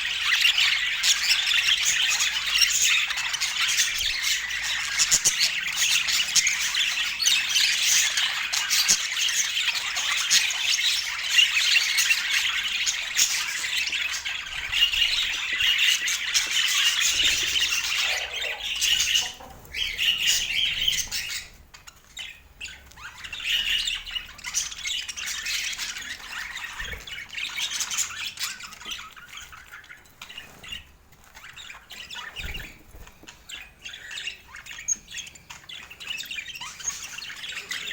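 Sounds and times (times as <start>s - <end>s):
budgerigars chattering and squawking: 0.0s - 37.9s.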